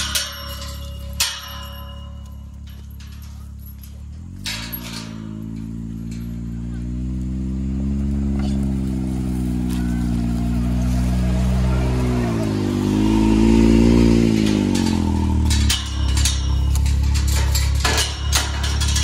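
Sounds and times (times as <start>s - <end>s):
vehicle engine passing by: 2.0s - 19.0s.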